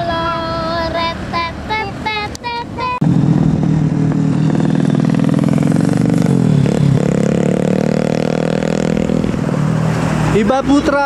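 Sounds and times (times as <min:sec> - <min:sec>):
bus diesel engine passing: 0:00.0 - 0:11.0.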